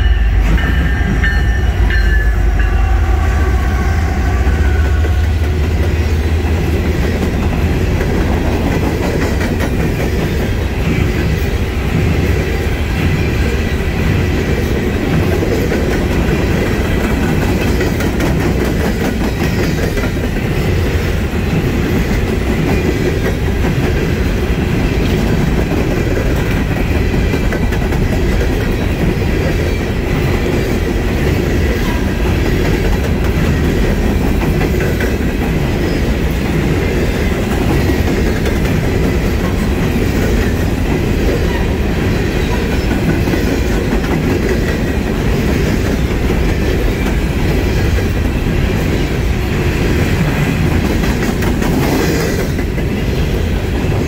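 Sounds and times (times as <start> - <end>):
freight train wheels on rails: 0.0 - 54.0
high tone from train wheels: 0.0 - 54.0
clickety-clack over rail joints: 4.8 - 54.0.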